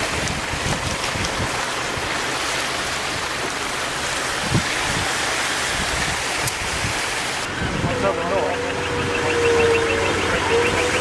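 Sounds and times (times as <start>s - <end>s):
seawater washing over road: 0.0s - 11.0s
wind: 0.0s - 11.0s.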